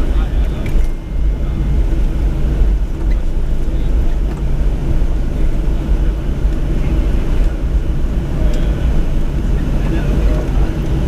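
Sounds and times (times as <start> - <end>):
aircraft engines idling: 0.0 - 11.0
hum of airflow: 0.0 - 11.0.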